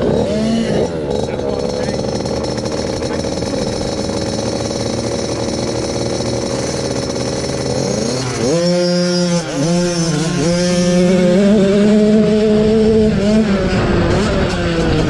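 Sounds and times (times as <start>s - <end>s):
two-stroke motocross bikes: 0.0s - 15.0s.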